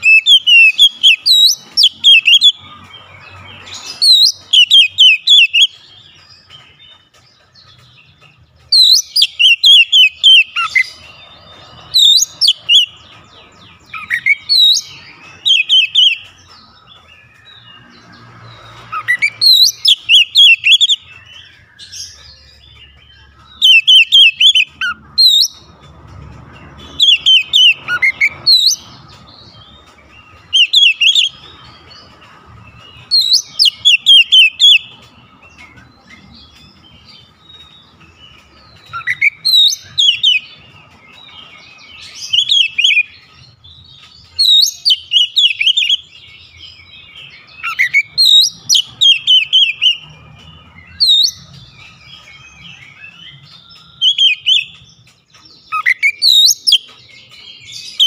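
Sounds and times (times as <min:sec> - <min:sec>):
bird singing sharp high notes: 0:00.0 - 0:25.7, 0:26.7 - 0:58.0.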